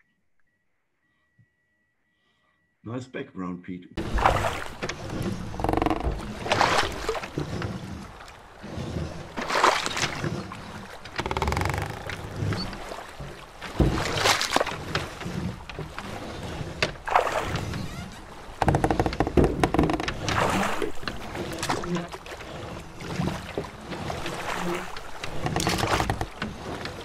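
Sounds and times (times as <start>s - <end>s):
oars splashing through water: 4.0s - 27.0s
wood creaking: 4.0s - 27.0s.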